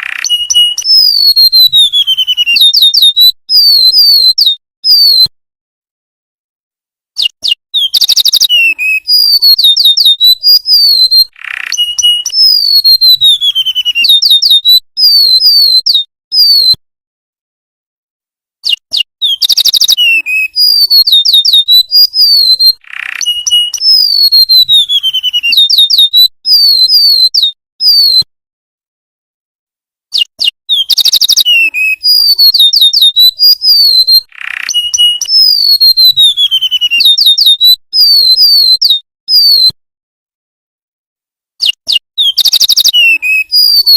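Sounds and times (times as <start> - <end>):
bird singing whistles and trills: 0.0 - 5.3, 7.2 - 16.8, 18.6 - 28.3, 30.1 - 39.8, 41.6 - 43.9.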